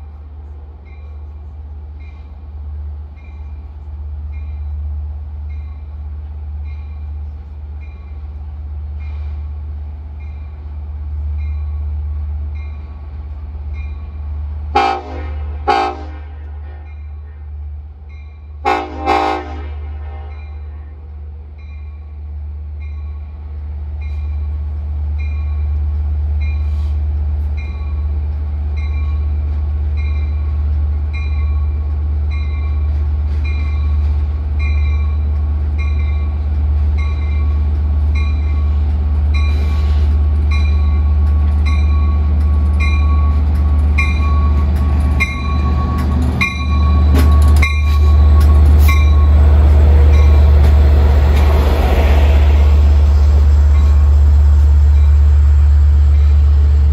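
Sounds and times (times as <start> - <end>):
diesel train rumbling past: 0.0 - 56.9.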